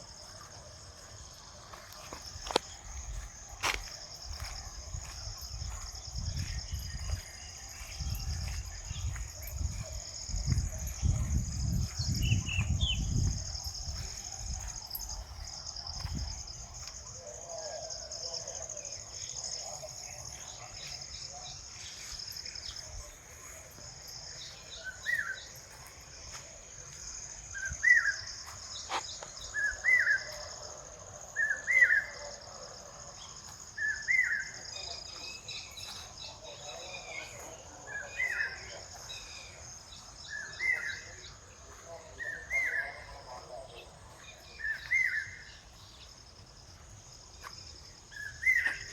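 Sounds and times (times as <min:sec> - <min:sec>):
insects buzzing: 0:00.0 - 0:48.9.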